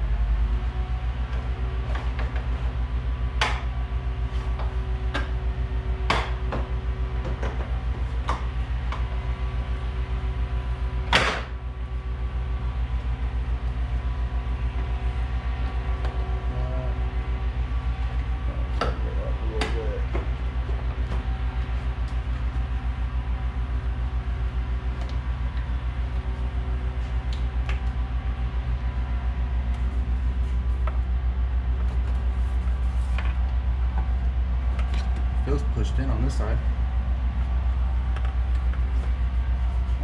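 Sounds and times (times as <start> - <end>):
low machine drone: 0.0 - 40.0.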